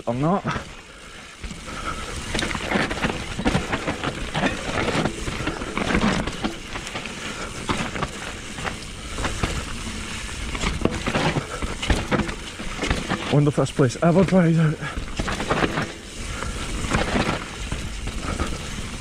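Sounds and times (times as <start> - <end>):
bike rattling and knocking: 0.0 - 19.0
bike tyres rolling over dirt: 0.0 - 19.0.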